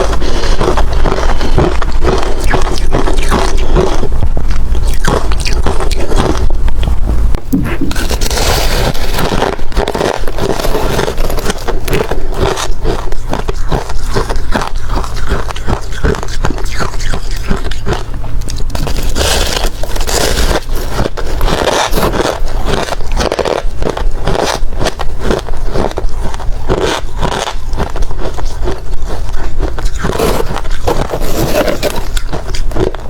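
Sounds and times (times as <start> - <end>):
ice crunching while chewed: 0.0 - 33.0.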